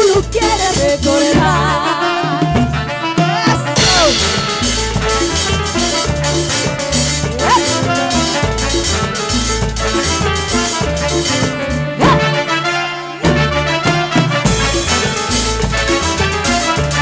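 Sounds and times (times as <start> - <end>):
bass: 0.0 - 17.0
drum kit beat: 0.0 - 17.0
latin dance band playing: 0.0 - 17.0.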